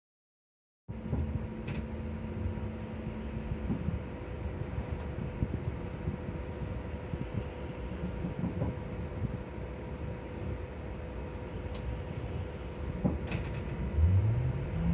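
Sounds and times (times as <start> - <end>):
low hum: 0.9 - 8.3, 9.6 - 14.9
low bus rumble: 0.9 - 14.9.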